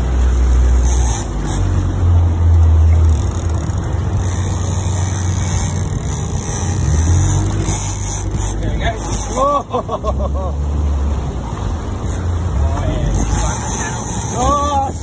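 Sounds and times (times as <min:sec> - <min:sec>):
boat engine running: 0:00.0 - 0:15.0
water rushing past hull: 0:00.0 - 0:15.0.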